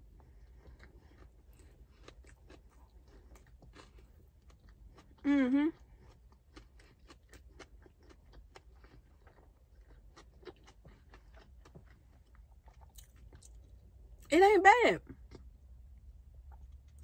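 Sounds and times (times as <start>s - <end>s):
faint chewing: 0.0s - 14.3s, 15.1s - 17.0s.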